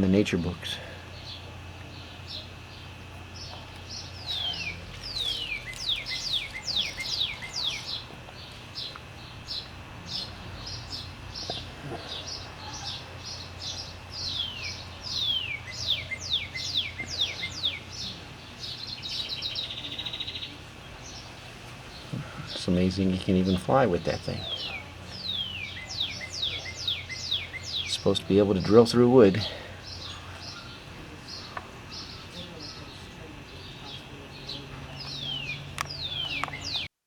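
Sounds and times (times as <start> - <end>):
songbird singing: 0.0 - 37.0.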